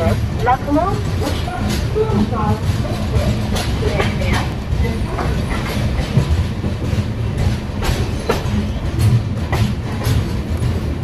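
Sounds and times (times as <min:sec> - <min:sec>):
train rumbling: 0:00.0 - 0:11.0
wheels clacking over rail joints: 0:00.0 - 0:11.0.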